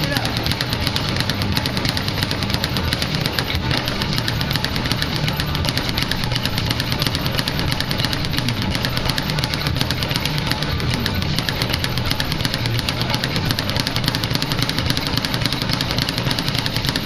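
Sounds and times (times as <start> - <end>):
speed bag rattling: 0.0 - 17.0.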